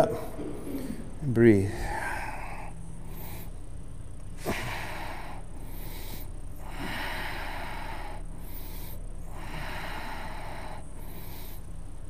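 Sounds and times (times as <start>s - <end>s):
faint steady hum: 0.0s - 12.0s
person breathing slowly: 0.1s - 3.7s, 4.4s - 11.8s.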